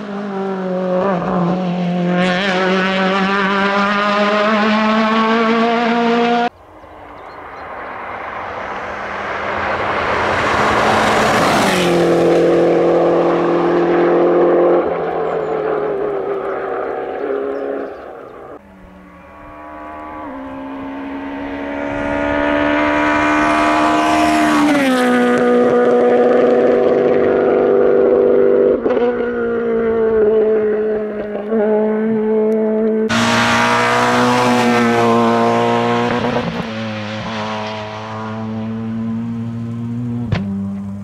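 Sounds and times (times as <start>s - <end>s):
rally cars passing at speed: 0.0s - 41.0s.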